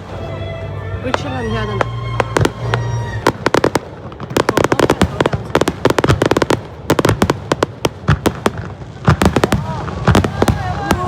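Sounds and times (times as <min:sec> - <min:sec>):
fireworks crackling and popping: 0:01.0 - 0:11.0.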